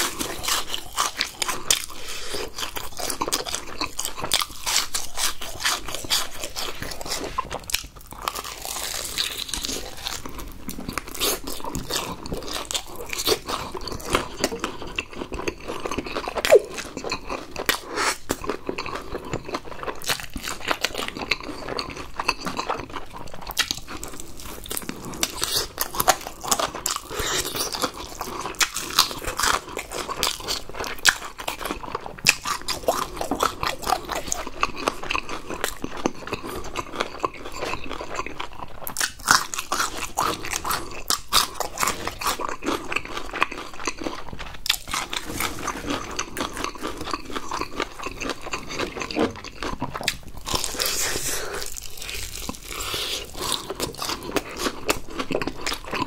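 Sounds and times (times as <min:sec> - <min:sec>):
crunching and chewing fried chicken: 0:00.0 - 0:56.0.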